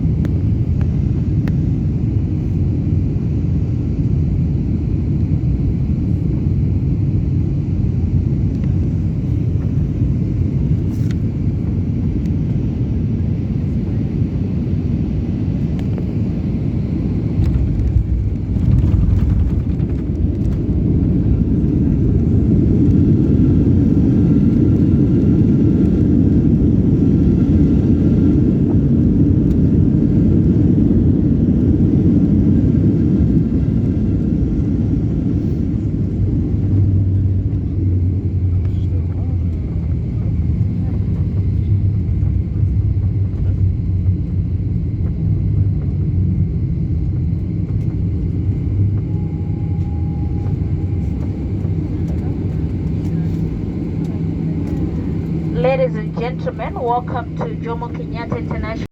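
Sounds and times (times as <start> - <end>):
airliner engine and airflow rumble: 0.0 - 58.9.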